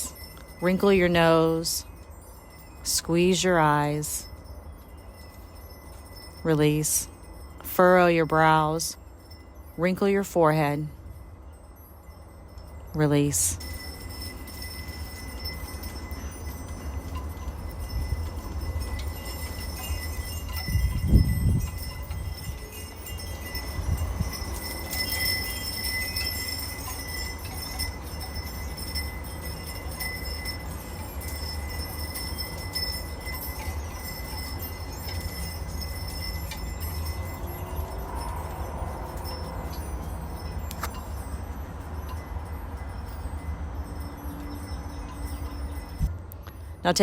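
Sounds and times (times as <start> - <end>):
low wind rumble: 0.0 - 47.0
wind chimes ringing: 0.0 - 47.0.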